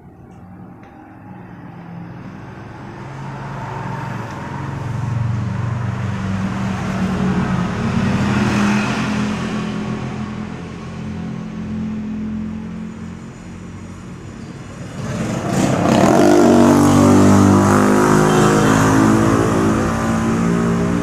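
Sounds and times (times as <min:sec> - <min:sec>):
motor vehicle passing: 0:00.0 - 0:21.0.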